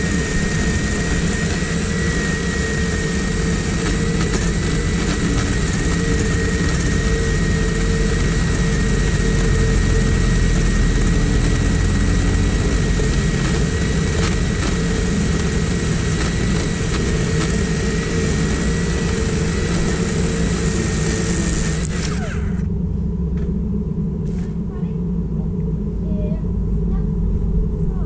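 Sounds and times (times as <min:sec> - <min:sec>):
electric chainsaw cutting log: 0:00.0 - 0:22.7
steady low rumble: 0:00.0 - 0:28.0.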